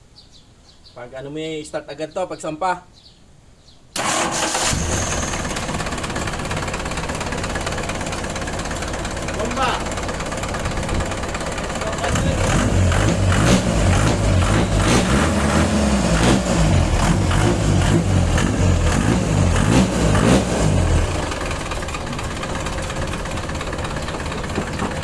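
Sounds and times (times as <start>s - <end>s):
diesel engine revving and idling: 4.0s - 25.0s.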